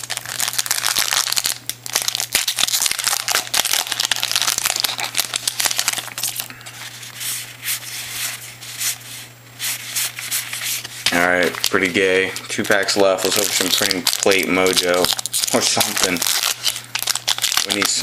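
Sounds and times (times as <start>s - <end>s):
foil wrapper crinkling and tearing: 0.0s - 7.9s, 9.8s - 18.0s.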